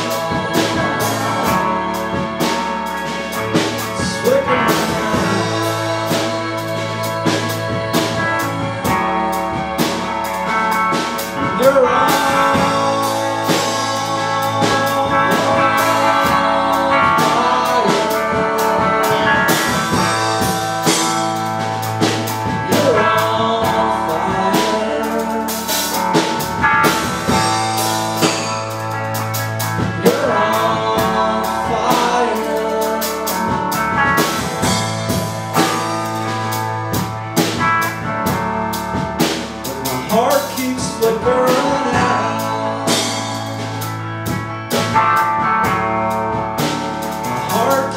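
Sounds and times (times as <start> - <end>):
live rock band playing: 0.0 - 47.9
person singing: 0.0 - 47.9.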